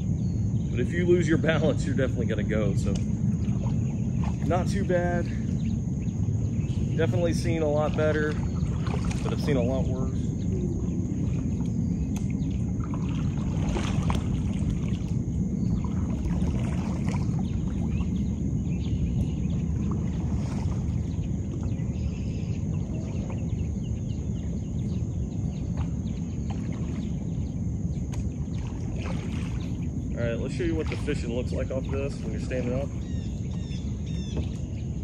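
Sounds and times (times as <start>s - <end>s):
wind rumble on microphone: 0.0s - 35.0s
paddle splashes and knocks: 2.7s - 35.0s.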